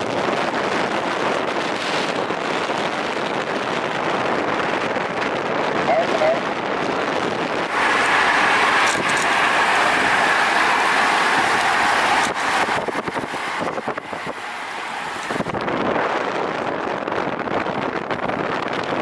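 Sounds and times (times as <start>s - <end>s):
car road noise: 0.0s - 19.0s
wind rush from moving car: 0.0s - 19.0s.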